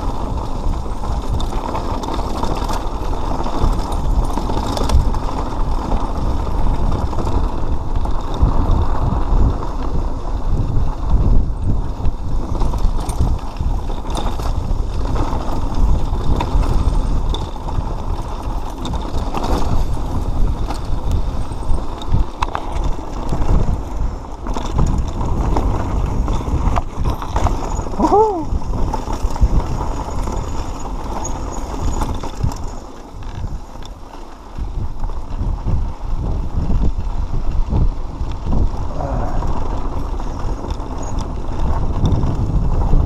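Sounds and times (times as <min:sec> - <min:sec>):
bike chain and frame rattling: 0:00.0 - 0:43.0
bike tyres on rocky dirt: 0:00.0 - 0:43.0.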